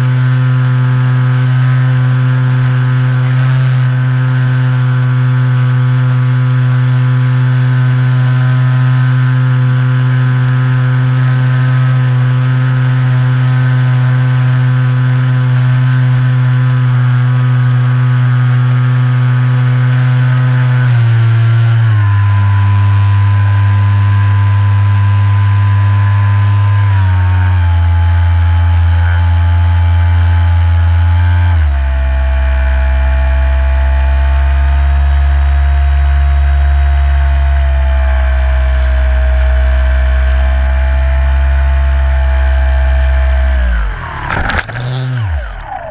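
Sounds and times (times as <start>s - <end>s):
electric motor and propeller buzzing: 0.0s - 45.9s
high motor whine: 0.0s - 45.9s.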